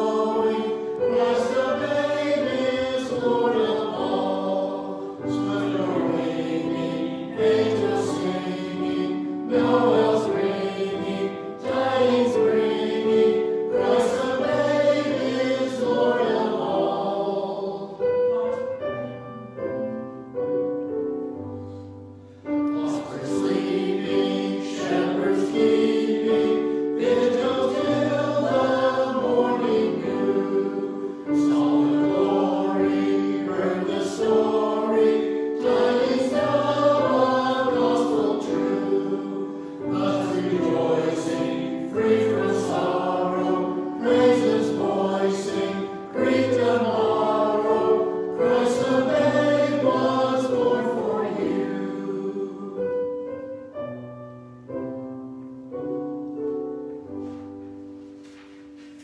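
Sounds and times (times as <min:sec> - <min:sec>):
choir singing sacred music: 0:00.0 - 0:53.7.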